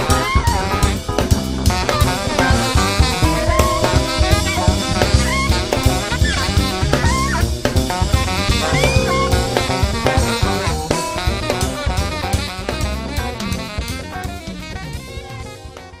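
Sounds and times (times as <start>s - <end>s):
instrumental band music: 0.7s - 16.0s.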